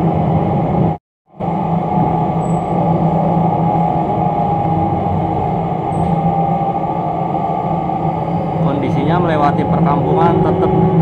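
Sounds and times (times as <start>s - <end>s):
railbus engine drone: 0.0s - 11.0s.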